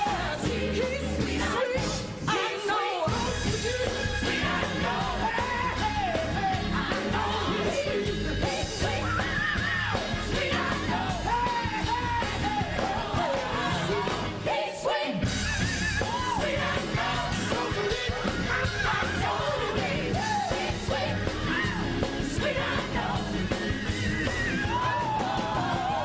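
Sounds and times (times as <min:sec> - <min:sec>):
gospel-style singing with band: 0:00.0 - 0:26.0.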